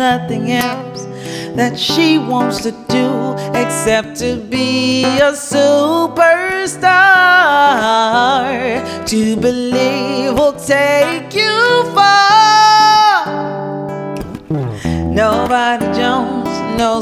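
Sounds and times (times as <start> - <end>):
acoustic guitar: 0.0 - 17.0
woman singing soul: 0.0 - 17.0.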